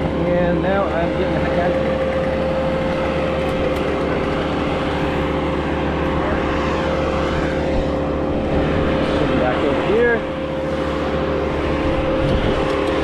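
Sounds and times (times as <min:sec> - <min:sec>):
engine humming: 0:00.0 - 0:13.0
wind buffeting microphone: 0:00.0 - 0:13.0.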